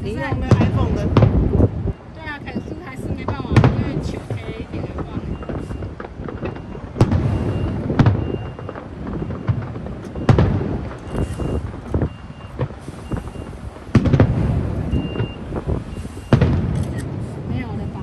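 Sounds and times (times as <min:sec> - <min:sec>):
firework pops and crackling: 0:00.0 - 0:18.0
loud firework booms: 0:00.0 - 0:18.0.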